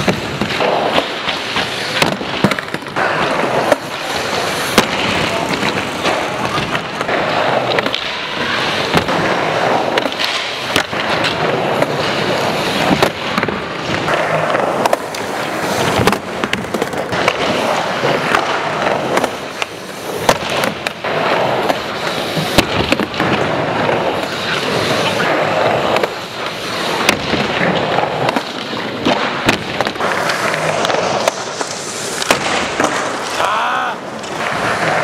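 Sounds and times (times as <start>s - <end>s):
skateboard clacking on ramp: 0.0s - 33.4s
skateboard clattering: 0.0s - 35.0s
skateboard wheels rolling: 0.0s - 35.0s.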